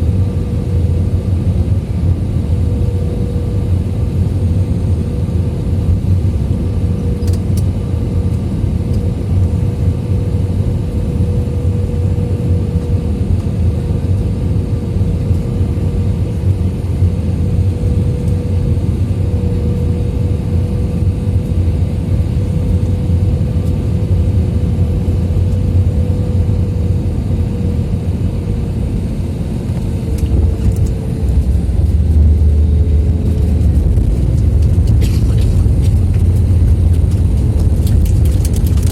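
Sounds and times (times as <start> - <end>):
aircraft engine and airflow drone: 0.0 - 38.9.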